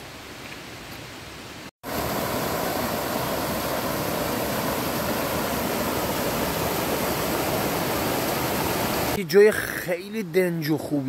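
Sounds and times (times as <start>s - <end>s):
waterfall rushing: 1.8s - 11.0s.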